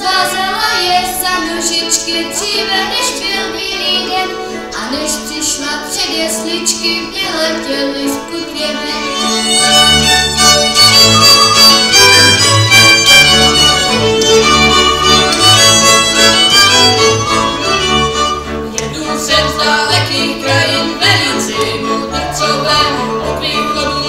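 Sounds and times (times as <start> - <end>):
fiddles: 0.0 - 24.0
folk string band playing: 0.0 - 24.0.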